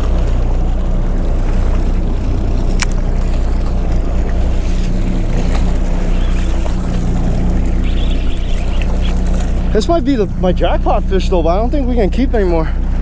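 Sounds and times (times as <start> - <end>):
boat engine running: 0.0 - 13.0
water noise: 0.0 - 13.0
wind: 0.0 - 13.0.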